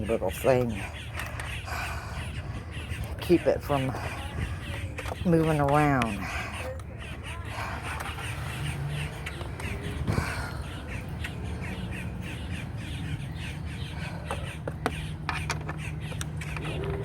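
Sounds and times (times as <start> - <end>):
steady low hum: 0.0 - 17.0
bird cawing: 0.4 - 17.0.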